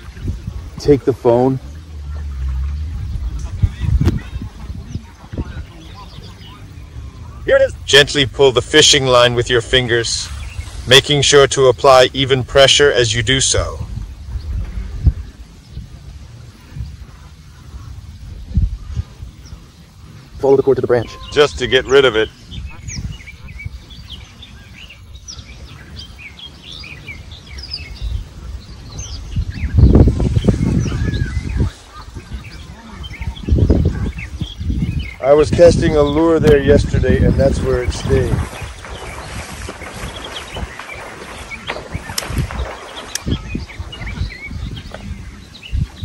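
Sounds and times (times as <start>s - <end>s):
small birds chirping: 0.0s - 46.0s
wind rumble on microphone: 0.0s - 46.0s.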